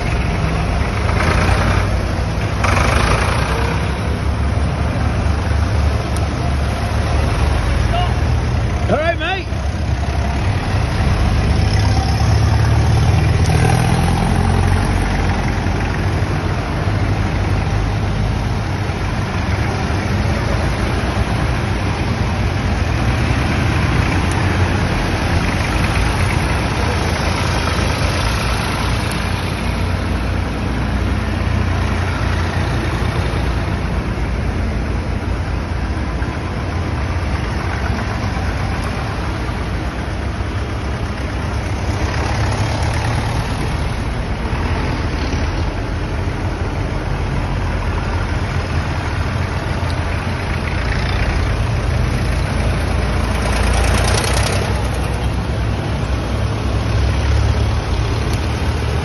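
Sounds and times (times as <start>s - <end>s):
tractor engines driving past: 0.0s - 59.0s.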